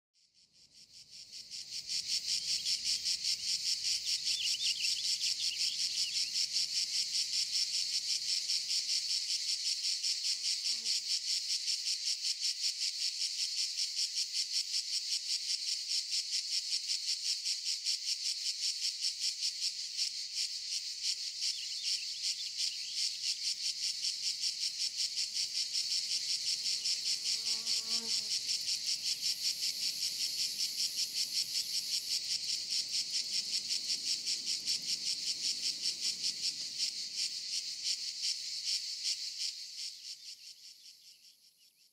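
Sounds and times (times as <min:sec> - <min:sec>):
cicadas singing: 0:00.4 - 0:41.9.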